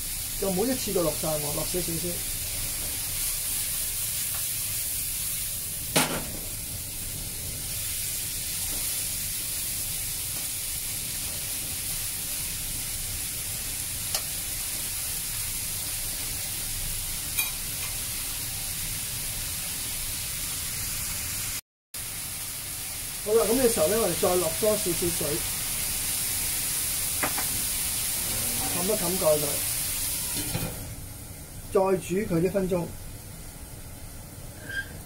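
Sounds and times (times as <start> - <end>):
food sizzling in pan: 0.0 - 35.0.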